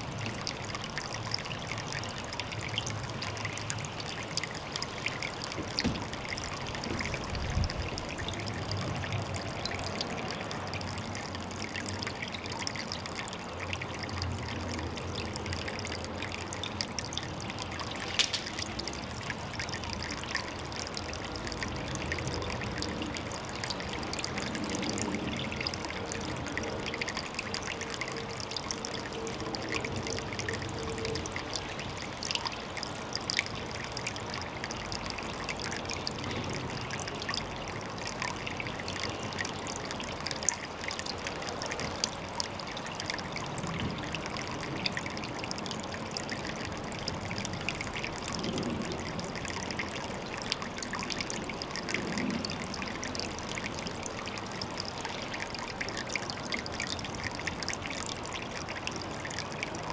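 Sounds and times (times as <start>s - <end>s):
water trickling with drips: 0.0s - 59.9s.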